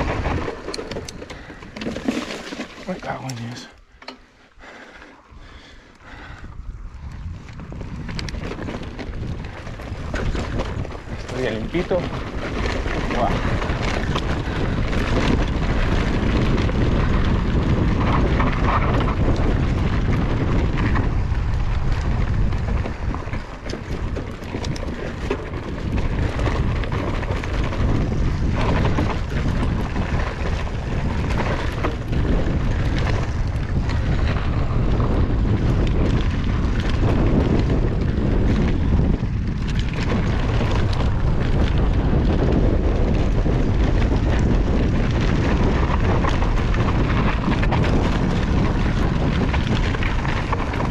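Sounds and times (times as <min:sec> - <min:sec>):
wind rushing over microphone: 0:00.0 - 0:03.9, 0:04.5 - 0:50.9
tyres crunching on dirt: 0:00.0 - 0:04.0, 0:06.9 - 0:50.9
bike rattling and knocking: 0:00.0 - 0:50.9.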